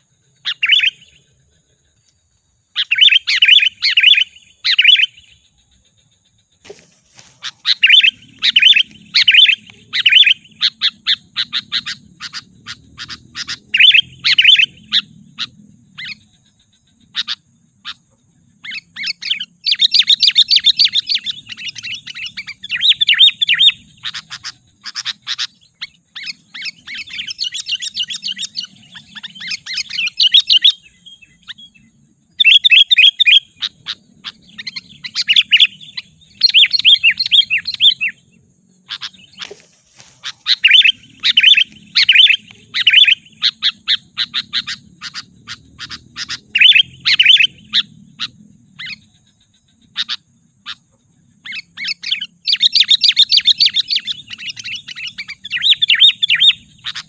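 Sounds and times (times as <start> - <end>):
bird chirping rapidly: 0.0 - 1.2, 2.7 - 57.0.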